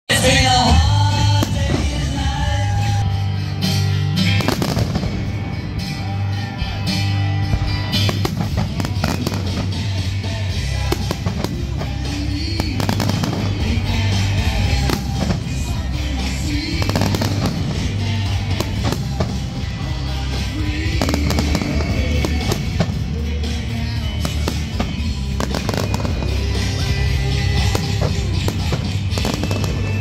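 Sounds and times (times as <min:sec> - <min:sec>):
loud music with bass line: 0:00.1 - 0:30.0
fireworks bangs: 0:00.3 - 0:03.0, 0:03.8 - 0:30.0.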